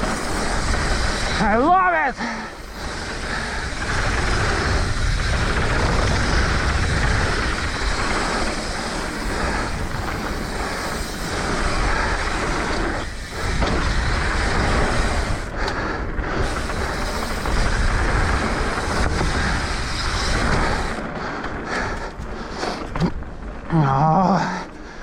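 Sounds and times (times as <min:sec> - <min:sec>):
wind rushing over microphone: 0:00.0 - 0:23.7
bike tyres rattling over dirt: 0:00.0 - 0:25.0.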